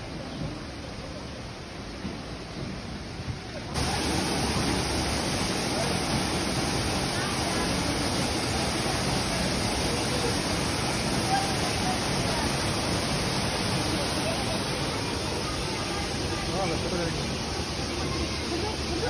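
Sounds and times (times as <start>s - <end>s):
waterfall rushing: 3.7s - 19.0s.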